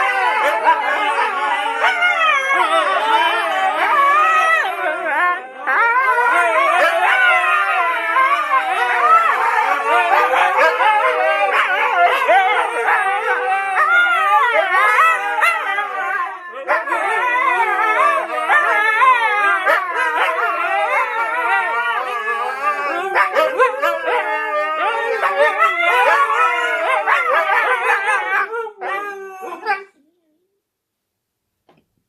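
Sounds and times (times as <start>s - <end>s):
dogs howling: 0.0s - 30.0s.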